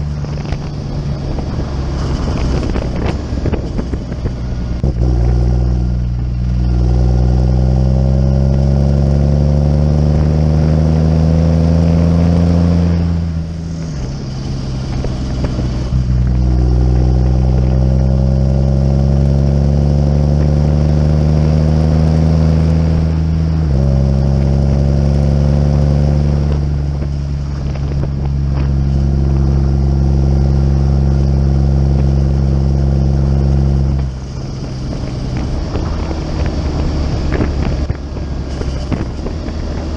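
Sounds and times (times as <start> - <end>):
tractor diesel engine accelerating: 0.0 - 39.9.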